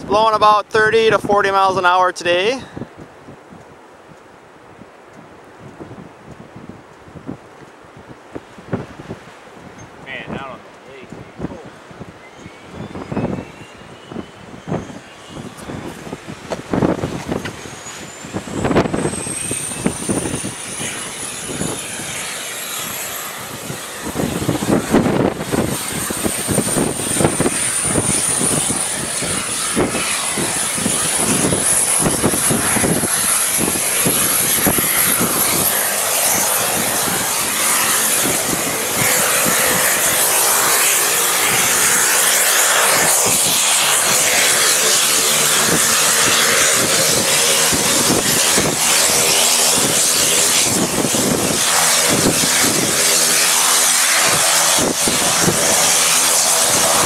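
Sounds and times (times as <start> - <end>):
turboprop engine whine: 0.0 - 57.0
wind buffeting microphone: 0.0 - 57.0.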